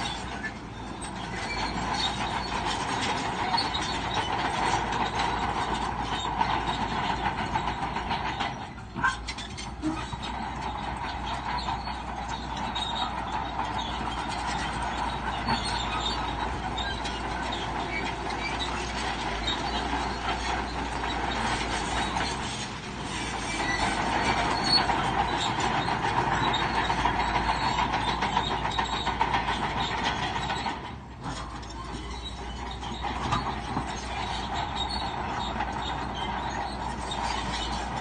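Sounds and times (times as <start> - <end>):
bulldozer engine running: 0.0 - 38.0
steel tracks clattering: 0.0 - 38.0.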